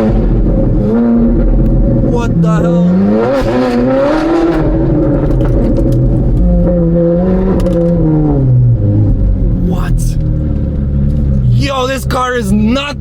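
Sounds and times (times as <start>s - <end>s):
loud car engine revving: 0.0s - 13.0s.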